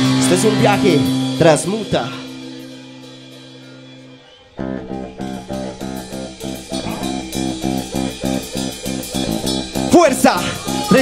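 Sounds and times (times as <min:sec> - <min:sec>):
rock band playing riff: 0:00.0 - 0:11.0.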